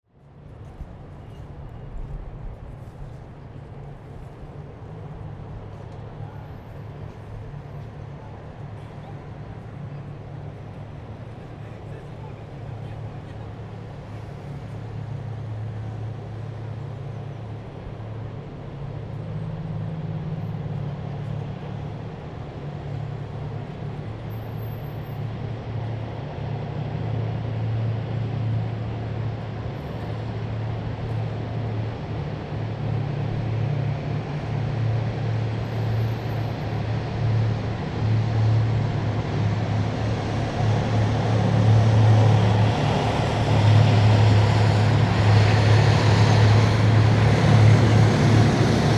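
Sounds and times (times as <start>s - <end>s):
heavy vehicle engines droning: 0.1s - 48.9s.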